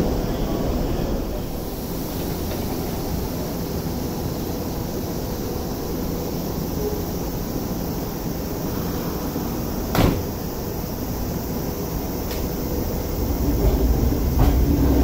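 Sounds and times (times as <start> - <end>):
train humming at platform: 0.0 - 15.0.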